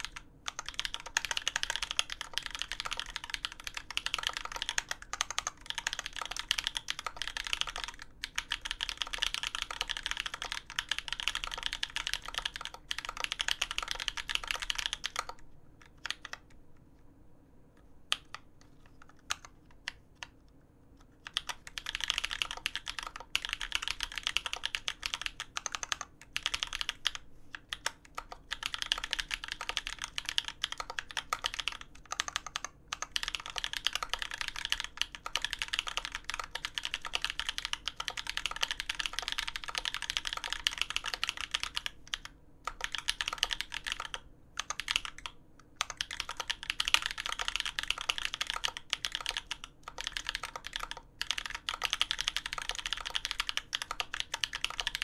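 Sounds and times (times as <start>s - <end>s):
mechanical keyboard typing: 0.0s - 16.6s, 18.1s - 20.4s, 21.2s - 55.0s.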